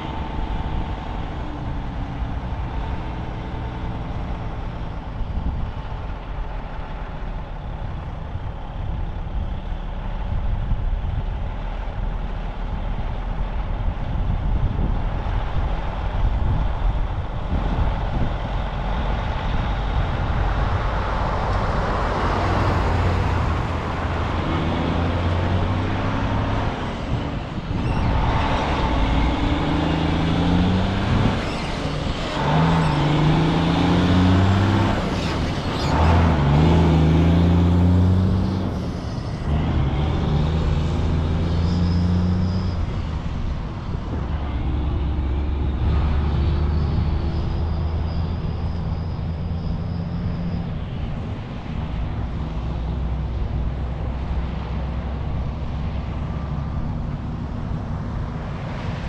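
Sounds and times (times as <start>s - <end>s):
combine harvester engine: 0.0s - 59.0s
tractor engine: 0.0s - 59.0s.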